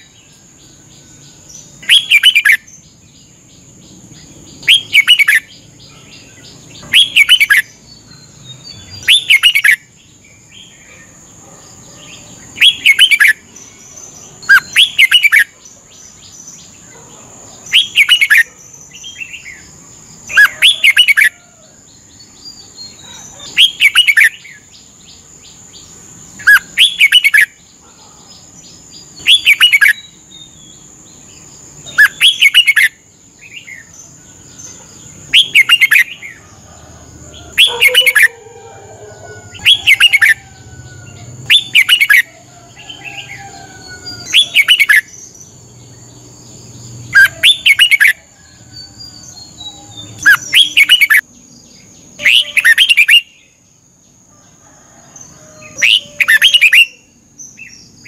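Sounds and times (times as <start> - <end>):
bird singing song phrases: 0.0 - 58.0.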